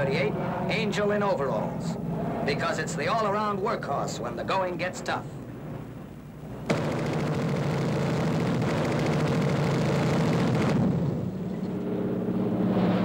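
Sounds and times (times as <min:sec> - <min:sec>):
piston aircraft engines running: 0:00.0 - 0:13.0.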